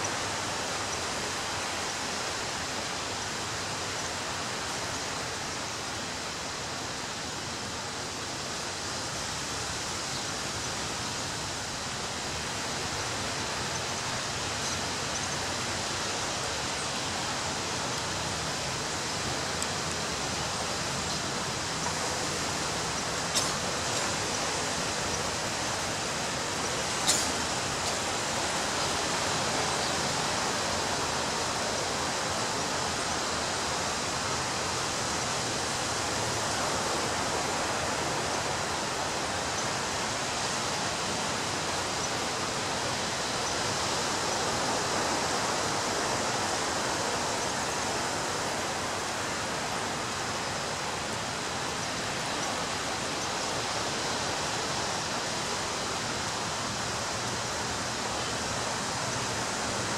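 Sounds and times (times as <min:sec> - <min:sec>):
ocean surf washing onto beach: 0:00.0 - 0:59.9.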